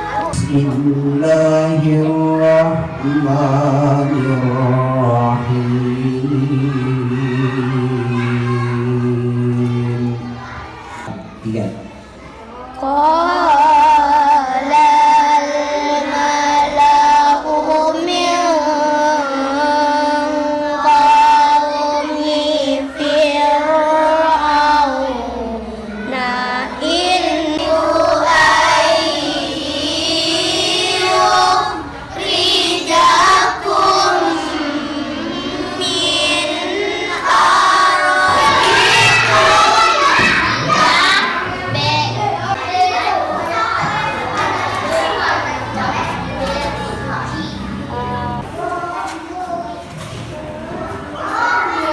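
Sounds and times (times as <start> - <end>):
children singing in unison: 0.0 - 51.9.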